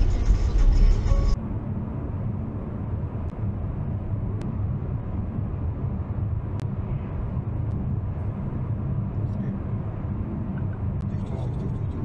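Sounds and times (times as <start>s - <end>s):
car driving at highway speed: 0.0s - 12.0s.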